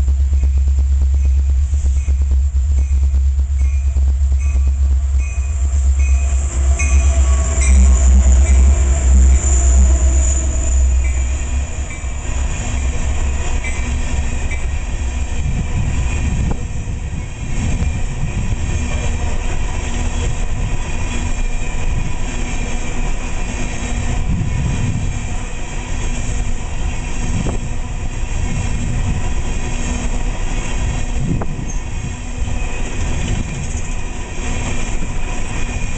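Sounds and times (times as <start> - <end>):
diesel locomotive drone: 0.0 - 35.9
train wheels rumbling on rail: 0.0 - 35.9.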